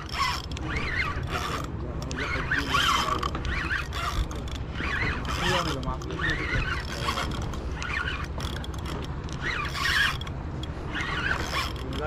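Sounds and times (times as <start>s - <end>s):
fishing reel gears whirring: 0.0s - 12.0s.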